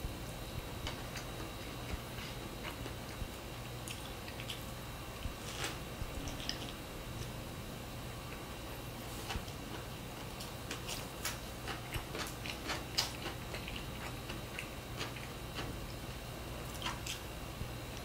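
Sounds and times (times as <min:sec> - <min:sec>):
chewing with crunches: 0:00.2 - 0:07.4, 0:08.1 - 0:18.0.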